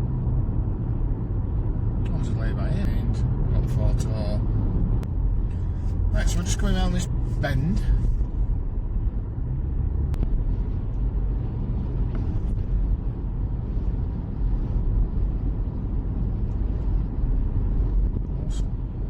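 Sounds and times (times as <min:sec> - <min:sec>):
car driving rumble from inside: 0:00.0 - 0:19.0.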